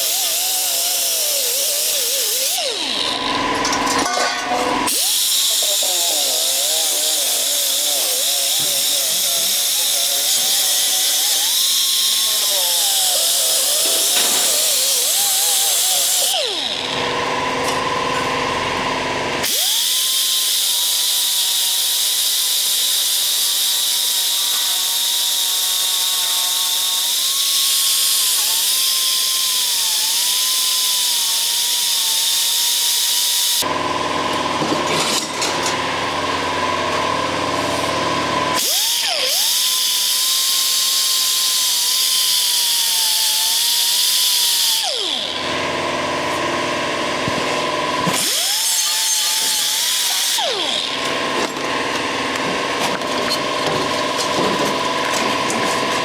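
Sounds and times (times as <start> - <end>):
power cutting tool whining: 0.0 - 56.0.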